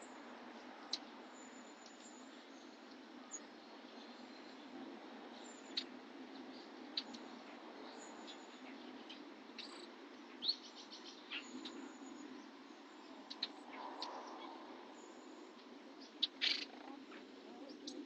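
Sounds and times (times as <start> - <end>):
songbirds chirping: 0.0 - 18.0
steady low hiss: 0.0 - 18.0.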